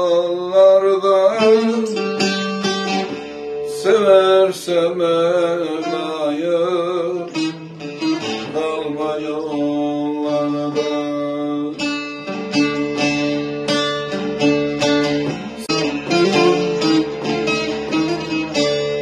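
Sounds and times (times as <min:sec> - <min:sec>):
long-necked lute strummed and picked: 0:00.0 - 0:19.0.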